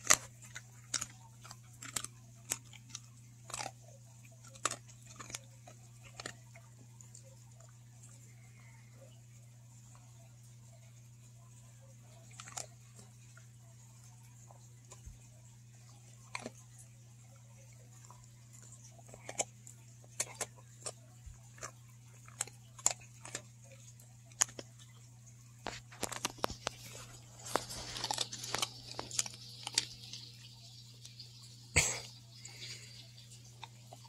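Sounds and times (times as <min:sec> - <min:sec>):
dog licking and gnawing: 0:00.0 - 0:31.2
cookie crunching: 0:00.0 - 0:34.0.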